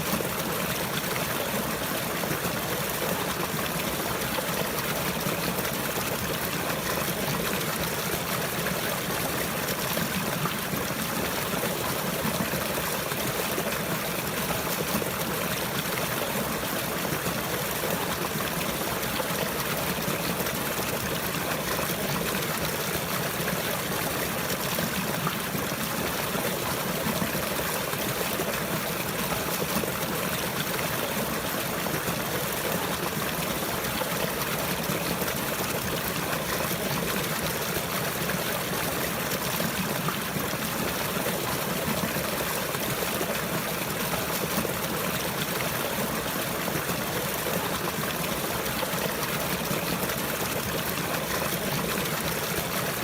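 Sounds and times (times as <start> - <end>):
stream trickling and splashing: 0.0 - 53.0.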